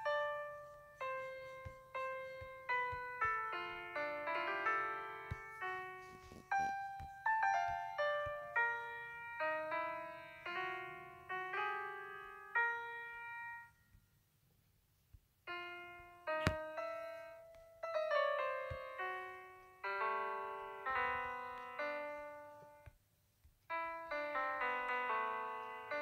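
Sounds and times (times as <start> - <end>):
piano music: 0.0 - 13.8, 15.5 - 22.9, 23.7 - 26.0.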